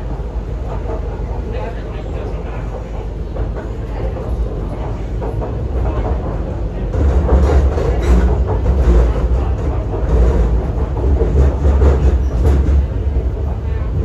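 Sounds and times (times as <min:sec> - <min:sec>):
metro wheels rumbling on rail: 0:00.0 - 0:14.0.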